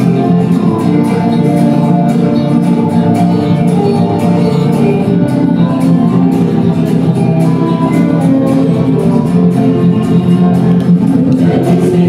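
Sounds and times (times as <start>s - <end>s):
live guitar music: 0.0s - 12.0s.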